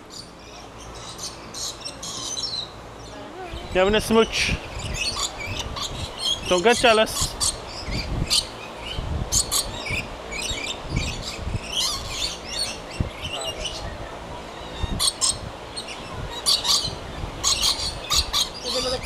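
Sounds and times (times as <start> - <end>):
parrots chirping and squawking: 0.1 - 19.0.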